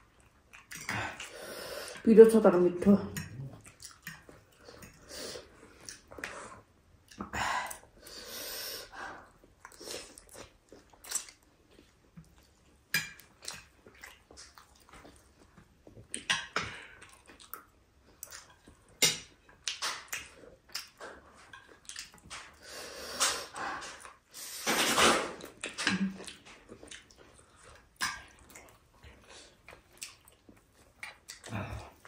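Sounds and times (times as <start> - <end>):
people chewing food: 0.0 - 32.0.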